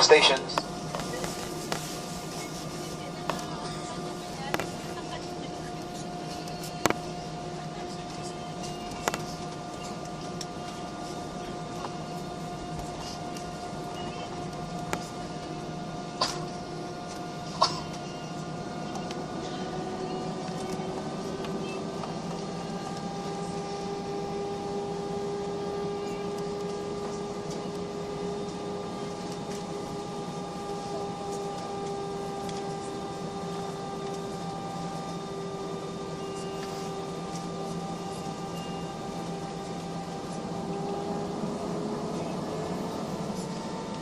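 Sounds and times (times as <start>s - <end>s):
airliner engines droning: 0.0s - 44.0s.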